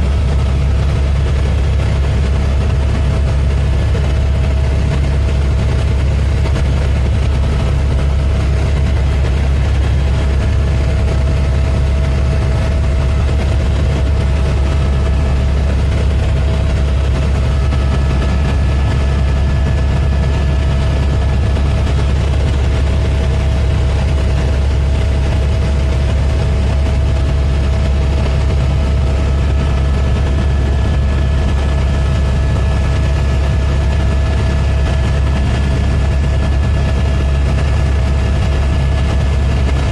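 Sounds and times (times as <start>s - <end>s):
helicopter rotor and engine rumble: 0.0s - 39.9s
thin steady whine: 0.0s - 39.9s.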